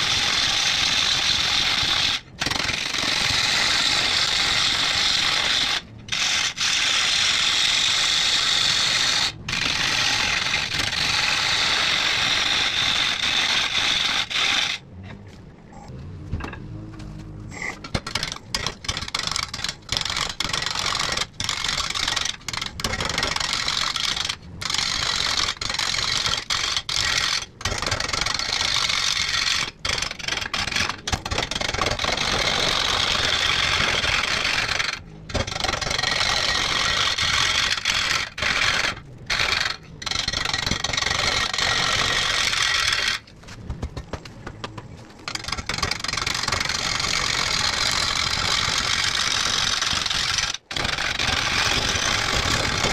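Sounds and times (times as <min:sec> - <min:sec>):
gouge scraping wood on lathe: 0:00.0 - 0:14.8, 0:17.5 - 0:43.5, 0:45.2 - 0:52.9.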